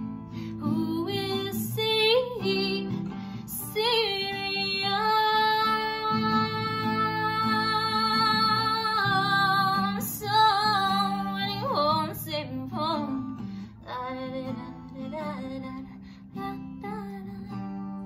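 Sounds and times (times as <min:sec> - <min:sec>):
acoustic guitar strumming: 0:00.0 - 0:18.0
woman singing: 0:00.4 - 0:18.0.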